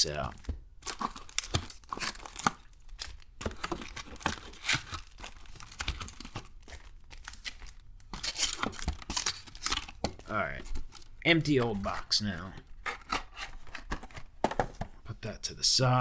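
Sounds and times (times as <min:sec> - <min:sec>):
card packs crinkling: 0:00.0 - 0:16.0.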